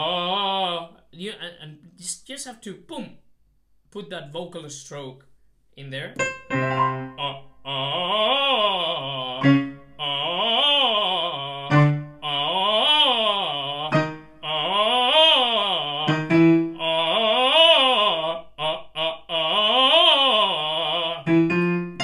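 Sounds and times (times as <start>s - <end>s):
man singing vowel slides: 0.0s - 3.1s, 5.8s - 21.8s.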